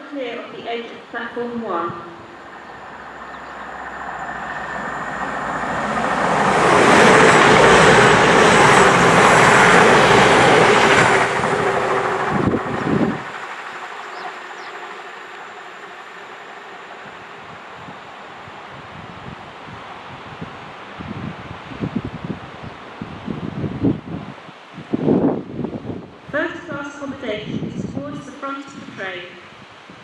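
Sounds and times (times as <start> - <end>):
train passing at speed: 0.3 - 28.9.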